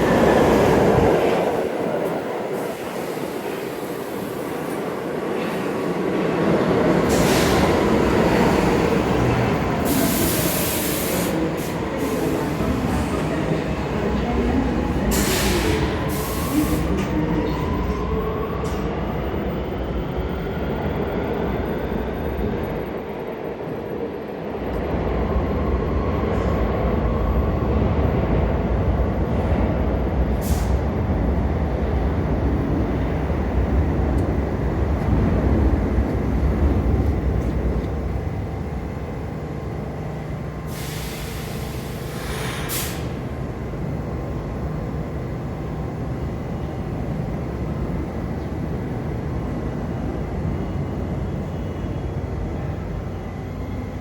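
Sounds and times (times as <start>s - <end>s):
subway train motors whining: 0.0s - 54.0s.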